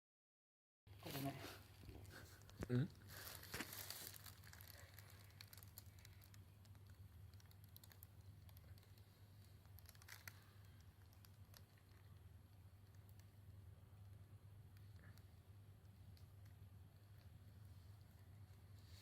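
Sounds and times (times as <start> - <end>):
faint ticks and rustles: 1.0 - 19.0.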